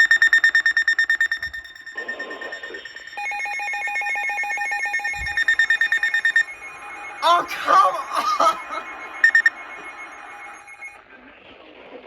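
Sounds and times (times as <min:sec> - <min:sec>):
rapidly pulsing high beep: 0:00.0 - 0:11.0.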